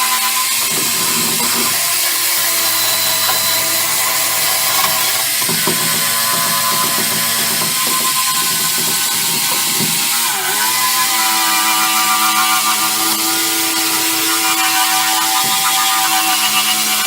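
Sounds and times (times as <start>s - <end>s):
electric power tool whining: 0.0s - 17.0s.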